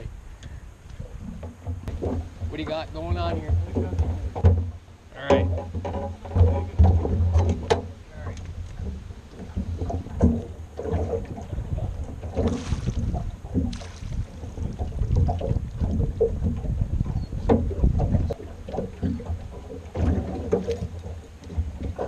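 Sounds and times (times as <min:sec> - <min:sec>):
water sloshing around boat: 0:00.0 - 0:22.0
wind rumbling on microphone: 0:00.0 - 0:22.0.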